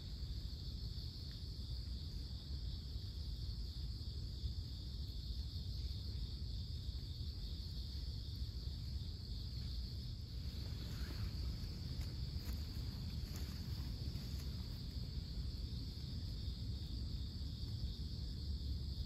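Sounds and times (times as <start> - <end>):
insects singing: 0.0 - 19.0
low steady rumble: 0.0 - 19.0.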